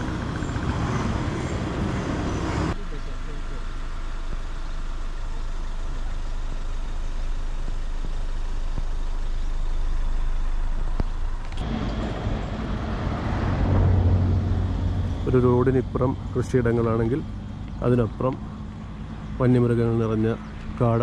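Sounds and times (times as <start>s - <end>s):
moving vehicle rumble: 0.0s - 21.0s.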